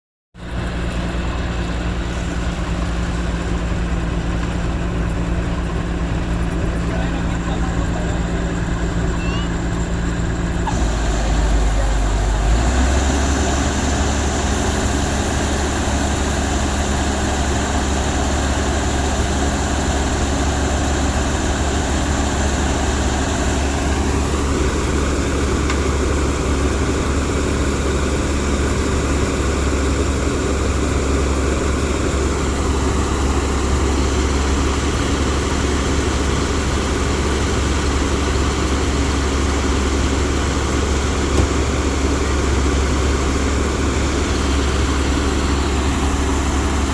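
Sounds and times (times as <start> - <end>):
combine harvester running: 0.4 - 46.9.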